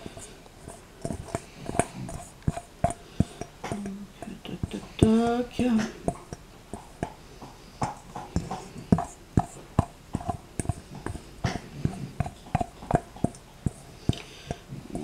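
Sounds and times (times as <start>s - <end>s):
spatula scraping and knocking bowl: 0.0s - 15.0s.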